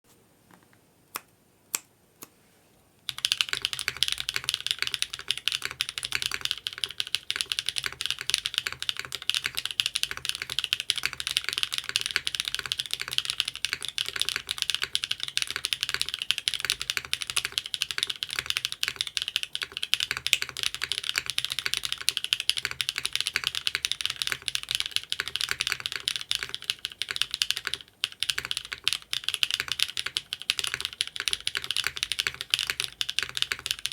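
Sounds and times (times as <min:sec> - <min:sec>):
mechanical keyboard typing: 0:03.1 - 0:33.9.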